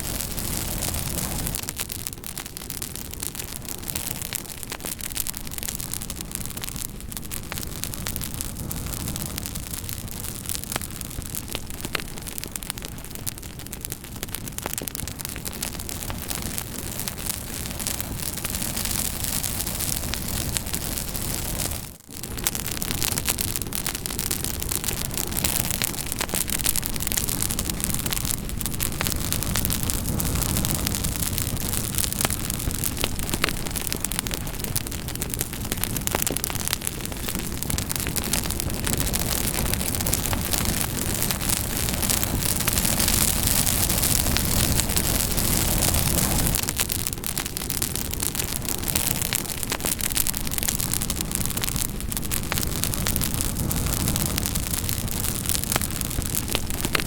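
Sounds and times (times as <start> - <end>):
campfire flames rushing: 0.0 - 57.0
wood crackling and popping: 0.0 - 57.0.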